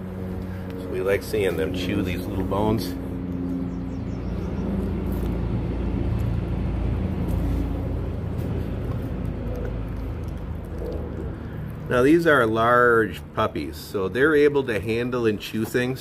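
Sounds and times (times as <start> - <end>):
low mechanical rumble: 0.0 - 16.0
puppies chewing fish: 0.0 - 16.0.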